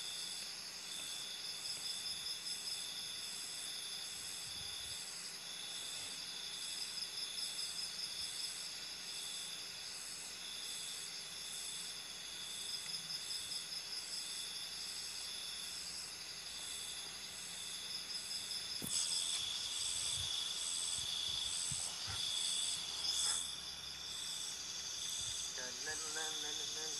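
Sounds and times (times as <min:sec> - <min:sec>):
night insects trilling: 0:00.0 - 0:26.9.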